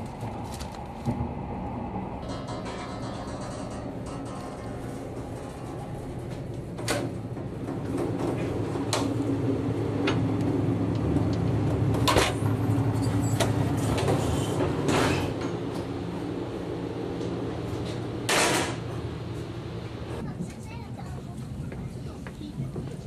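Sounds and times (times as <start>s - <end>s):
train coach rumble: 0.0s - 23.0s.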